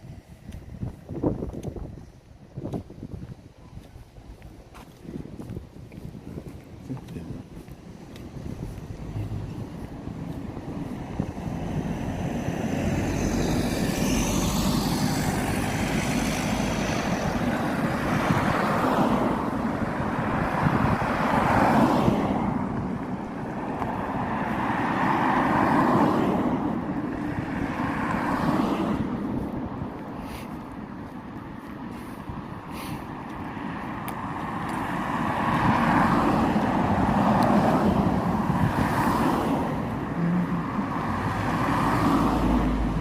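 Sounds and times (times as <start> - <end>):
vehicles passing close by: 0.0 - 43.0.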